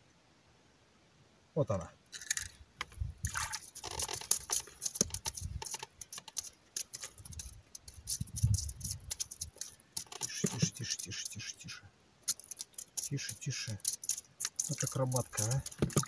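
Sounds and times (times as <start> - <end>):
fish splashing and thrashing: 2.1 - 11.6, 12.2 - 16.0
sharp taps and rustles: 2.1 - 11.6, 12.2 - 16.0.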